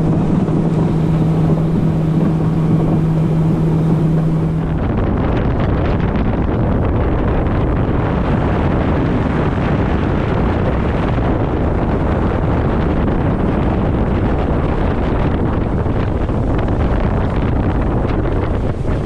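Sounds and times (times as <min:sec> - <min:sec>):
fishing boat engine running: 0:00.0 - 0:19.0
wind buffeting microphone: 0:00.0 - 0:19.0.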